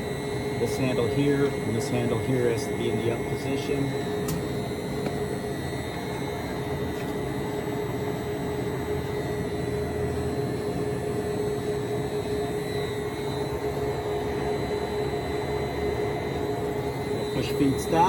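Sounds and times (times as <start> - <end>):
lathe humming and whining: 0.0 - 18.0.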